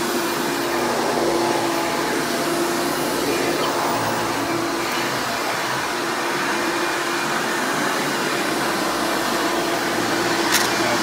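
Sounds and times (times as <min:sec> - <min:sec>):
vacuum cleaner running on carpet: 0:00.0 - 0:11.0.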